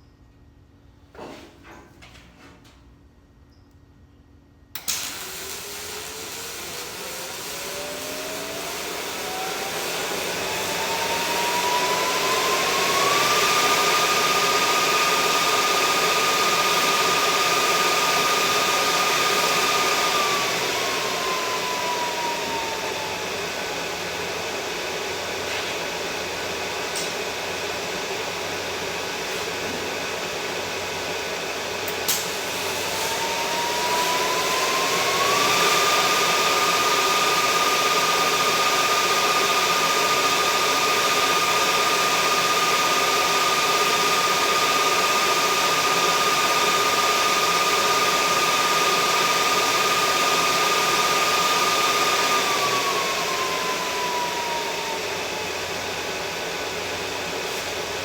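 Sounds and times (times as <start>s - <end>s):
power tool motor whine: 4.8s - 58.0s.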